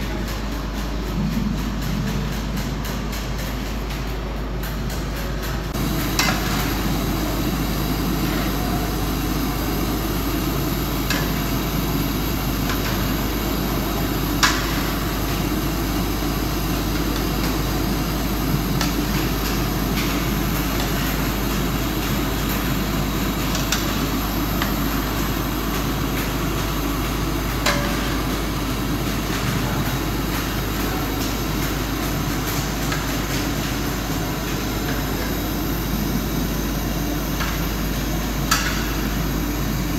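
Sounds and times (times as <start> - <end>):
gas burner roaring: 0.0 - 39.9.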